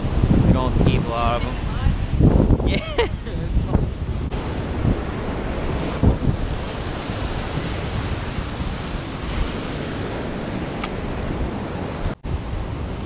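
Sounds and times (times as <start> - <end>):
ocean surf on sandy beach: 0.0 - 13.0
wind buffeting microphone: 0.0 - 13.0.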